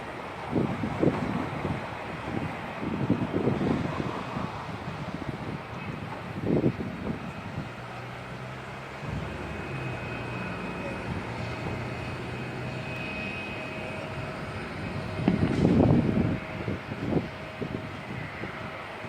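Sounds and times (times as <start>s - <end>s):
jet airliner engines roaring: 0.0s - 19.0s.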